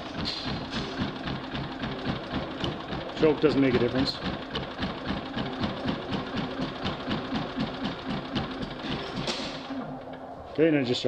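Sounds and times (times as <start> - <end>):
generator engine running rough: 0.0 - 9.9.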